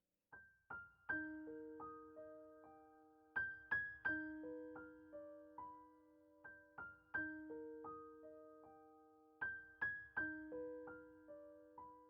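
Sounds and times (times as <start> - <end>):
gentle piano music: 0.3 - 12.0.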